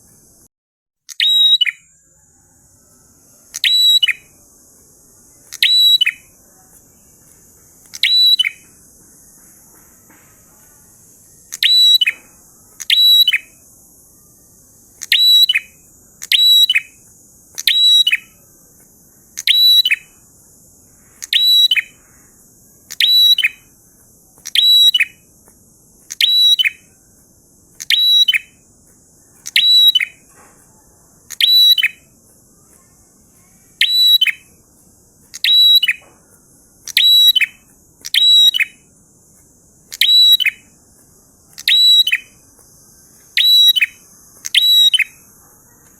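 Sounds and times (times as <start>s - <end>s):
prinia singing: 1.1s - 45.9s
faint high hiss: 1.5s - 45.9s.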